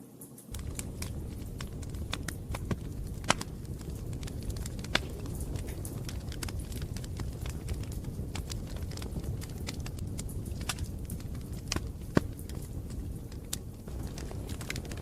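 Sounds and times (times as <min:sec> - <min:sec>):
campfire crackling and popping: 0:00.5 - 0:15.0.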